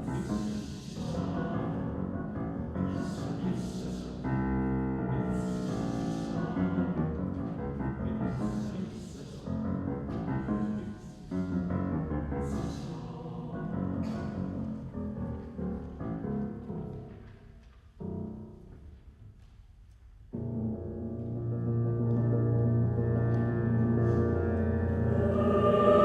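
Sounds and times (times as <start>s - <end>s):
piano playing low chords: 0.0s - 17.4s, 20.3s - 26.0s.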